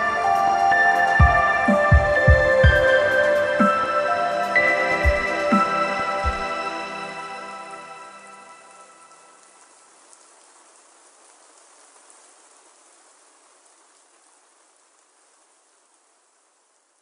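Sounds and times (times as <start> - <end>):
faint rain-like hiss: 0.0 - 17.0.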